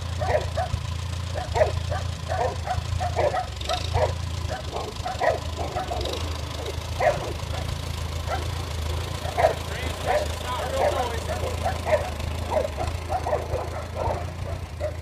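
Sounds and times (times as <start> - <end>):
dog barking and yipping: 0.1 - 8.6, 9.2 - 15.0.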